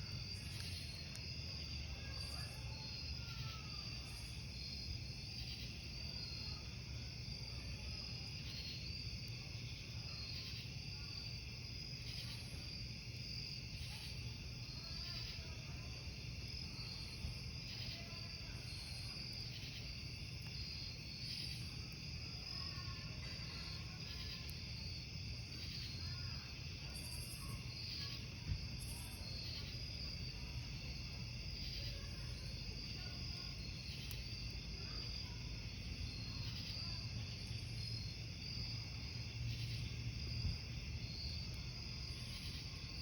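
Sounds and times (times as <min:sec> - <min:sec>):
campfire rumble: 0:00.0 - 0:43.0
crickets chirping: 0:00.0 - 0:43.0.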